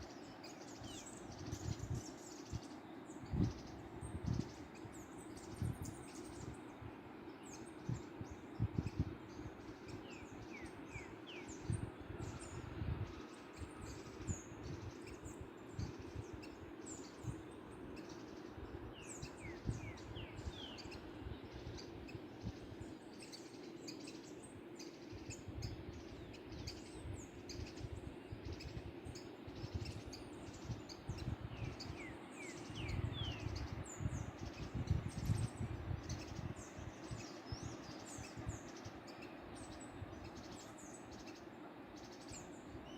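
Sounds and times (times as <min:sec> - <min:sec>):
small birds singing: 0:00.0 - 0:42.9.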